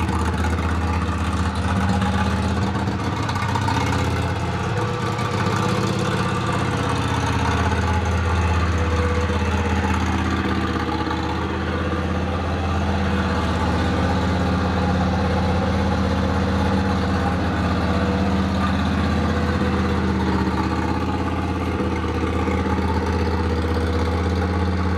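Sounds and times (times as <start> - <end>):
mower engine idling: 0.0 - 24.9.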